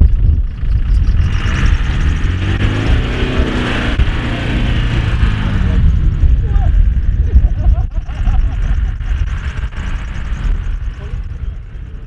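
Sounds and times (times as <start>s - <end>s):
engine revving under load: 0.0s - 12.0s
wind buffeting microphone: 0.0s - 12.0s.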